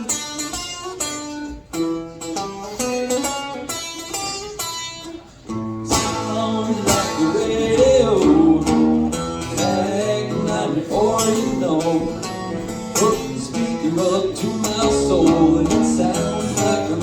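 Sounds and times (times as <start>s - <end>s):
acoustic guitar picked notes: 0.0s - 17.0s
country band playing: 0.0s - 17.0s.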